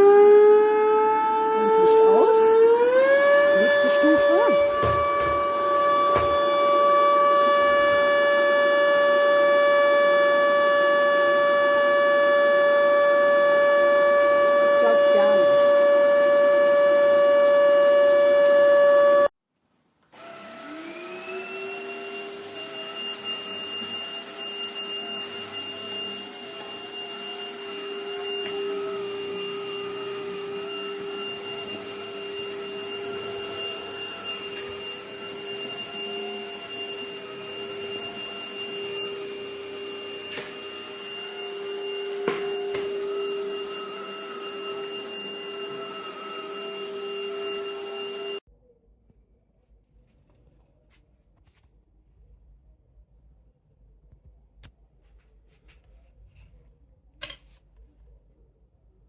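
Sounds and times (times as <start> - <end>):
vacuum cleaner motor whining: 0.0 - 19.3, 20.1 - 48.4.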